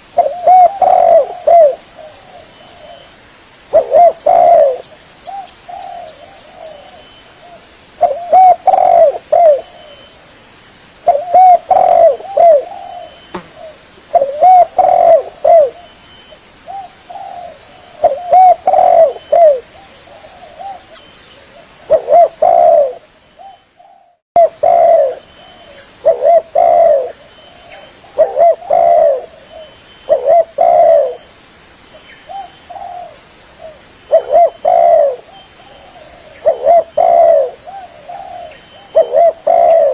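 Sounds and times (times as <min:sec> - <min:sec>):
dove cooing: 0:00.0 - 0:03.1, 0:03.7 - 0:10.1, 0:11.0 - 0:16.0, 0:16.7 - 0:31.3, 0:32.3 - 0:39.9.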